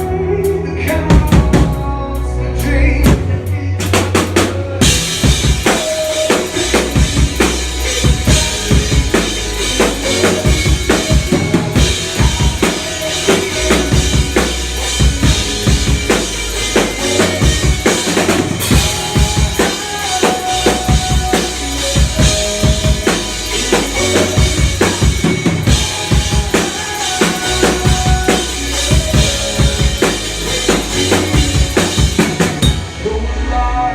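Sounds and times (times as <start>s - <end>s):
live band playing: 0.0s - 33.9s.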